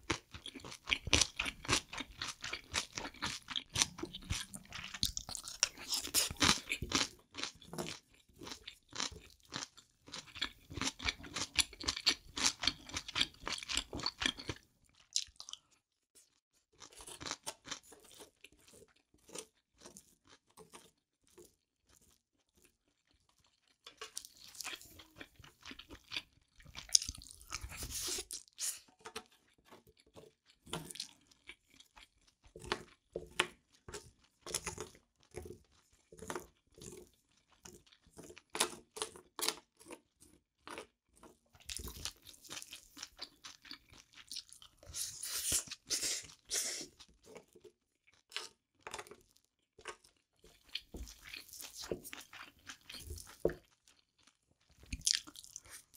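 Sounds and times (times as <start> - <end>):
wet chewing and crunching: 0.0 - 55.9.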